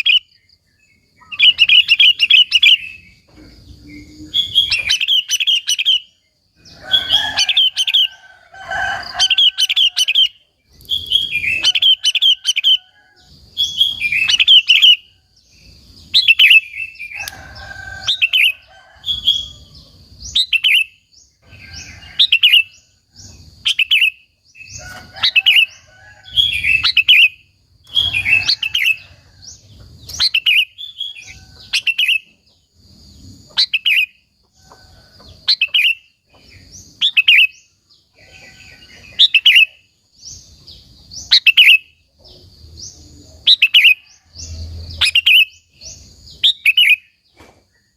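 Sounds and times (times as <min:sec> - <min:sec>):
bulbul singing: 0:00.0 - 0:47.2.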